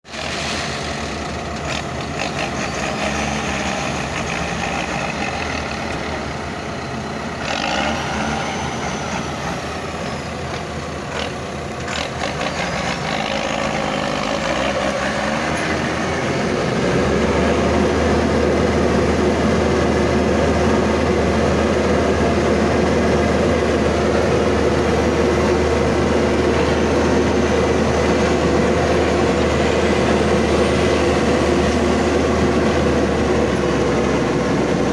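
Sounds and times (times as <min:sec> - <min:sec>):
truck engine revving: 0:00.0 - 0:34.9.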